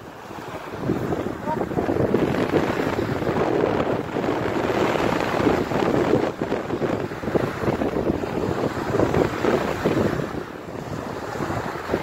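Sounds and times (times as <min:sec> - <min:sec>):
small waves washing on shore: 0:00.0 - 0:12.0
wind buffeting microphone: 0:00.0 - 0:12.0.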